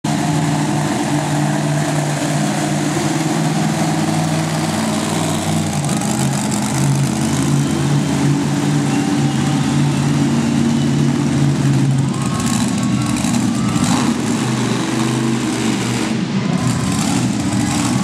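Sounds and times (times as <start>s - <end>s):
truck engine rumbling at low revs: 0.0s - 18.0s.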